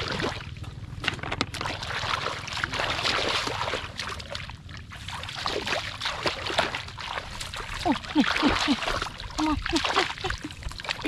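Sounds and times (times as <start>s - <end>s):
shallow water splashing: 0.0s - 11.0s.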